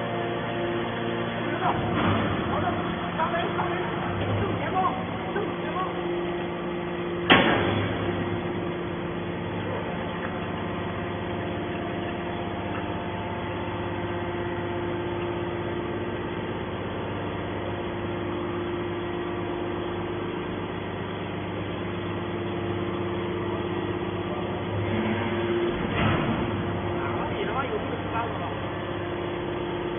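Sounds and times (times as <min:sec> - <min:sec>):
hydraulic baler machine drone: 0:00.0 - 0:29.9.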